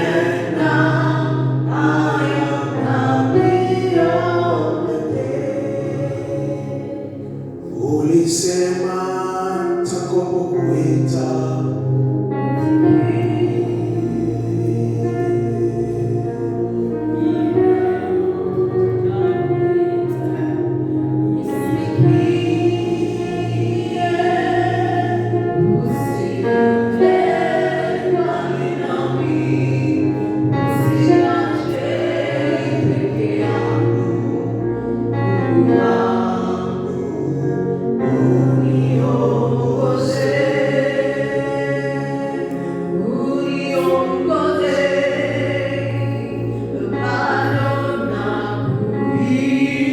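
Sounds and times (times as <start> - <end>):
choir singing gospel song: 0.0 - 49.9
sustained keyboard chords: 0.0 - 49.9.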